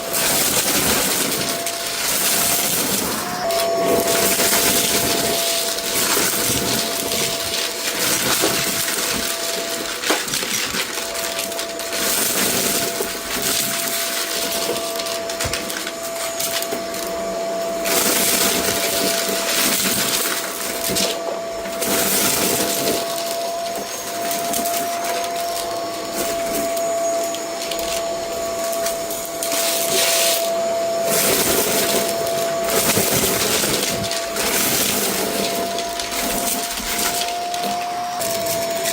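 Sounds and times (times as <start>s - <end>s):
debris rattling in vacuum: 0.0s - 38.9s
vacuum cleaner running: 0.0s - 38.9s.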